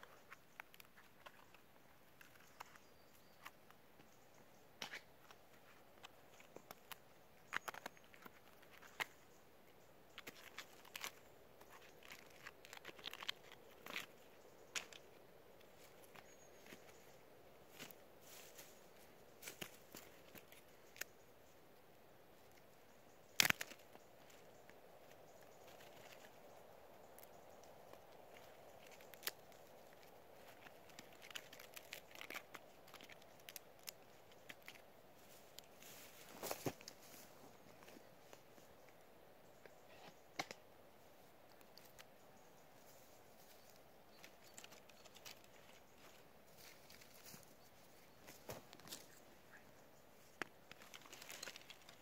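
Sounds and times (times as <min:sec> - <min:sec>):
faint background hiss: 0:00.0 - 0:52.0
faint crunches and crackles: 0:00.0 - 0:52.0.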